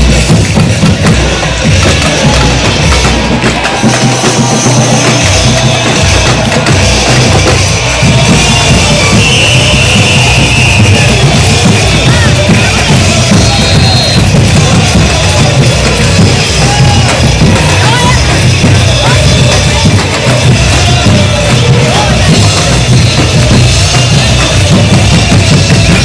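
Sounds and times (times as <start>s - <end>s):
deep bass drums: 0.0s - 26.0s
drum section playing: 0.0s - 26.0s.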